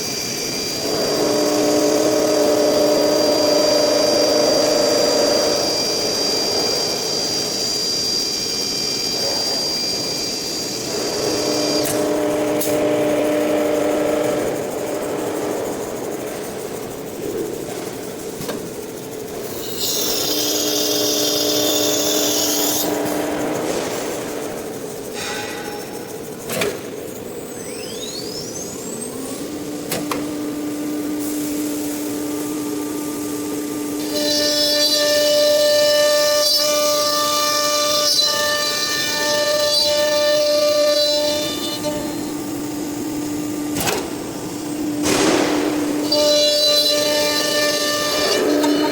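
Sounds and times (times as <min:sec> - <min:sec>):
machine hum: 0:00.0 - 0:48.9
router high whine: 0:00.0 - 0:48.9.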